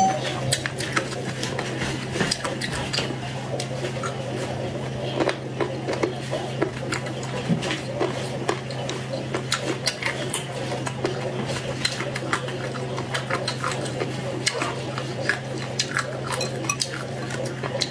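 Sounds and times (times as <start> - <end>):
wet chewing with mouth clicks: 0.0 - 17.9.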